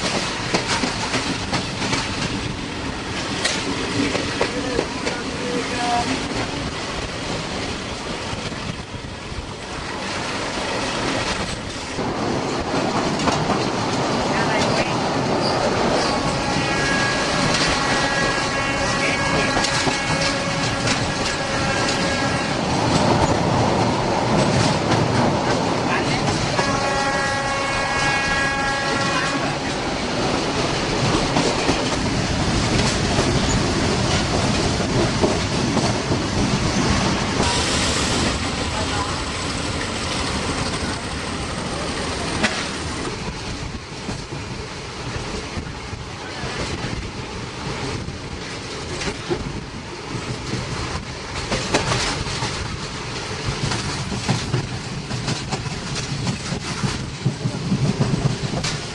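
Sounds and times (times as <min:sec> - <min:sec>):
passenger train rushing: 0:00.0 - 0:58.9
wind buffeting microphone: 0:00.0 - 0:58.9.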